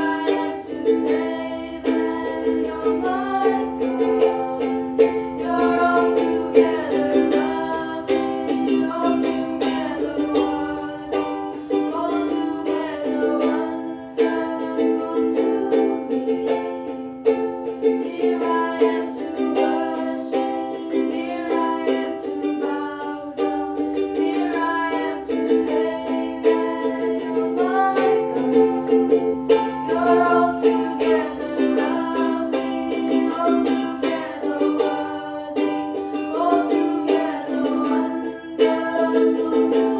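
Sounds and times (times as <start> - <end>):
strummed string instrument hymn: 0.0 - 39.9.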